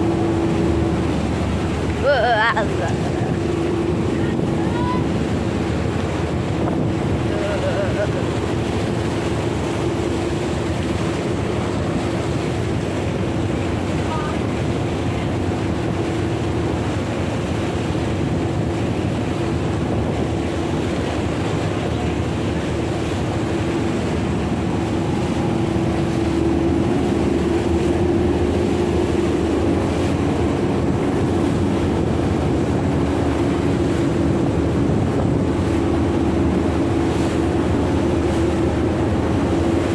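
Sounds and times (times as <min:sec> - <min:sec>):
boat engine humming: 0:00.0 - 0:39.9
water rushing past hull: 0:00.0 - 0:39.9
wind on microphone: 0:00.0 - 0:39.9.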